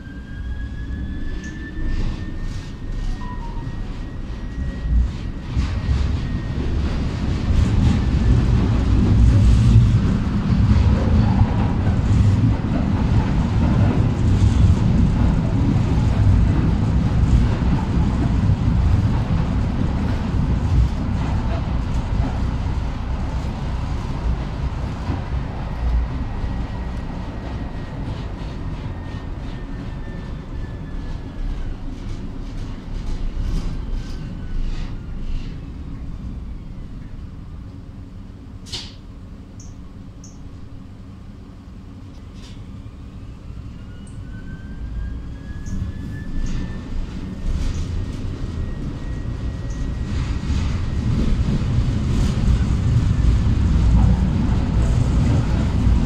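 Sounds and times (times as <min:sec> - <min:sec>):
tram wheels rumbling on rails: 0:00.0 - 0:56.0.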